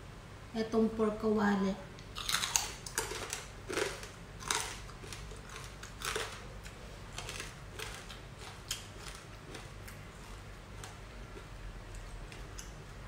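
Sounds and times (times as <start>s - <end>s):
chewing crispy food: 2.1s - 13.0s.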